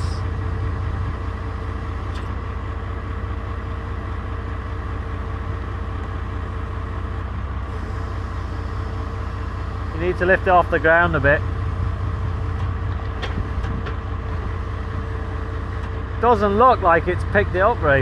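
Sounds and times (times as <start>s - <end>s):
tractor engine drone: 0.0s - 18.0s.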